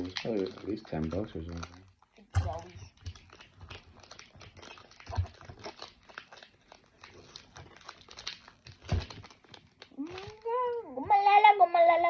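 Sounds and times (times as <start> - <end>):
foil packs and cards crinkling: 0.0 - 11.0.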